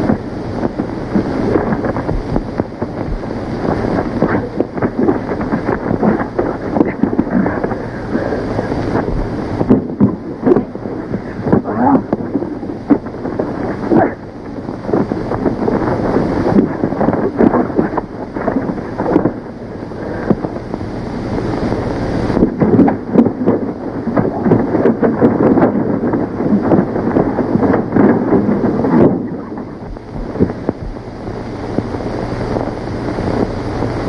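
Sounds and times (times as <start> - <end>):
old film soundtrack hiss: 0.0 - 34.0.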